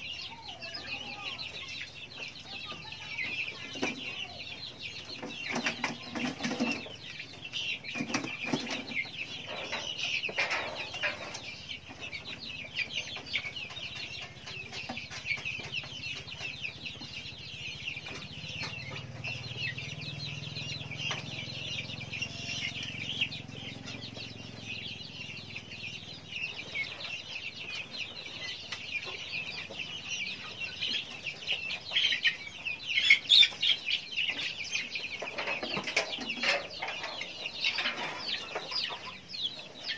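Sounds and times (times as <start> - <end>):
young guinea fowl chirping: 0.0 - 39.9.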